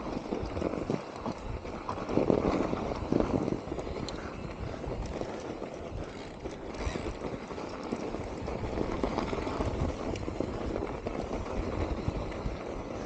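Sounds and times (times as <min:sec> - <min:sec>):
bike rattling and knocking: 0:00.0 - 0:13.0
tyres rumbling on packed snow: 0:00.0 - 0:13.0.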